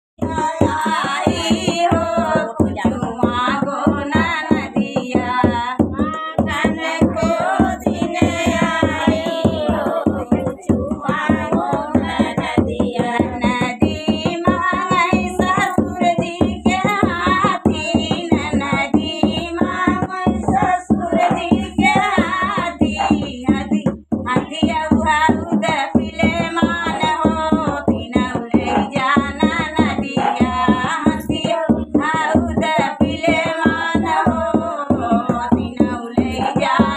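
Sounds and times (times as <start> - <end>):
barrel drum beaten by hand: 0.2 - 36.9
woman singing folk song: 0.2 - 36.9.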